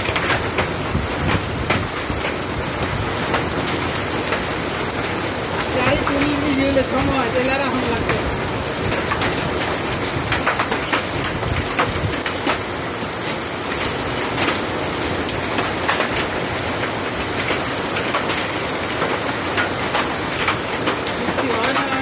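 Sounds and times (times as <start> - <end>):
heavy rain on pavement: 0.0 - 22.0
raindrops splatting: 0.0 - 22.0.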